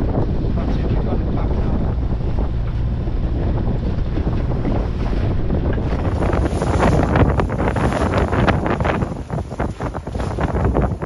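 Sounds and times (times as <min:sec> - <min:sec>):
choppy sea against hull: 0:00.0 - 0:11.0
wind buffeting microphone: 0:00.0 - 0:11.0.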